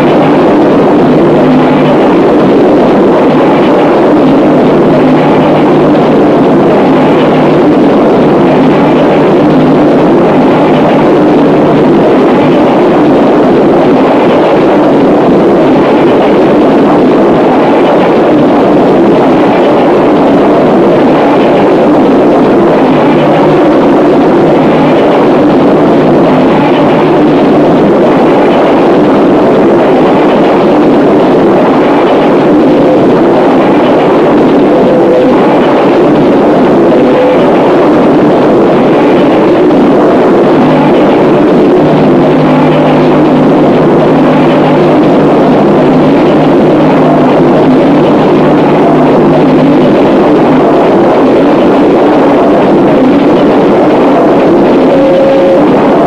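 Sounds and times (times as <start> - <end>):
distorted harsh noise music: 0.0 - 56.0
low drone: 0.0 - 56.0.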